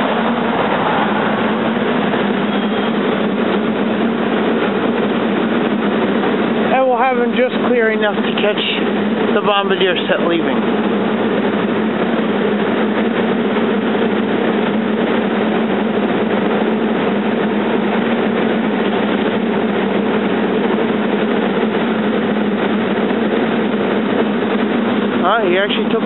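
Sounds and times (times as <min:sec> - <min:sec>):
railcar equipment humming: 0:00.0 - 0:26.0.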